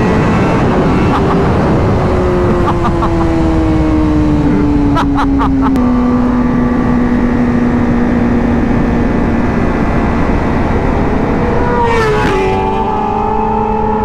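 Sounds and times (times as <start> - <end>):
motorcycle engine running: 0.0 - 14.0
wind noise: 0.0 - 14.0.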